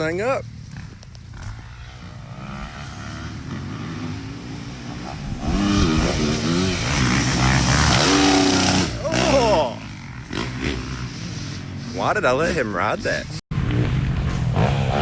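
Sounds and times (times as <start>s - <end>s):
motocross bike revving: 0.0s - 15.0s.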